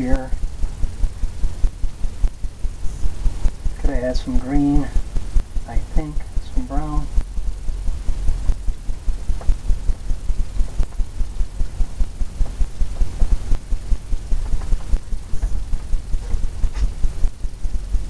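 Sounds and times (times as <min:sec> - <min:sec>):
low throbbing rumble: 0:00.0 - 0:18.0.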